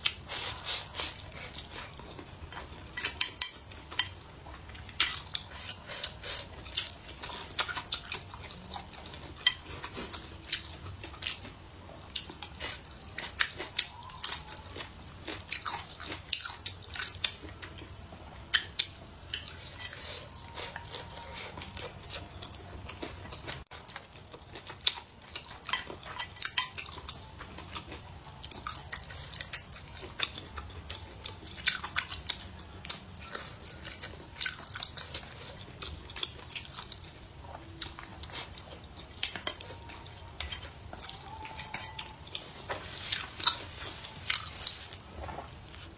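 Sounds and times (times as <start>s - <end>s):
person chewing: 0.0s - 45.9s.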